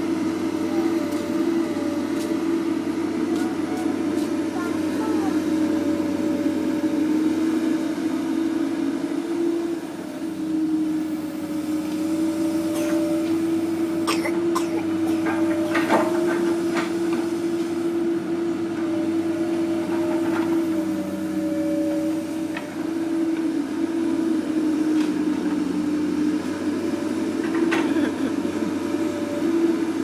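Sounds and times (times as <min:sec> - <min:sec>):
demolition machine engine drone: 0:00.0 - 0:30.0.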